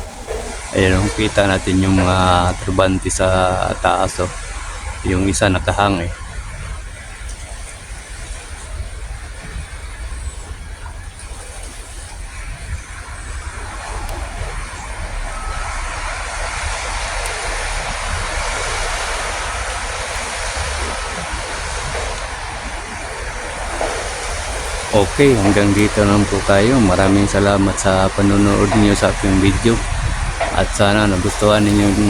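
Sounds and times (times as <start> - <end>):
road traffic rumbling: 0.0 - 32.0.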